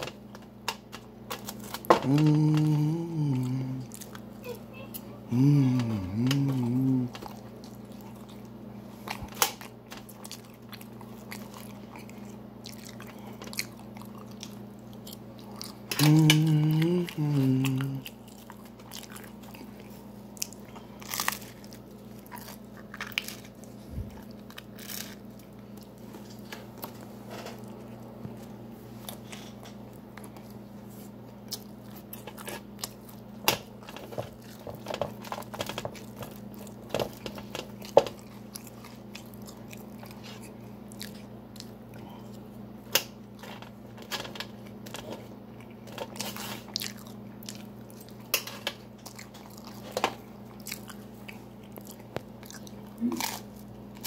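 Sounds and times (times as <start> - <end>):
person chewing crunchy pizza: 0.0 - 54.0.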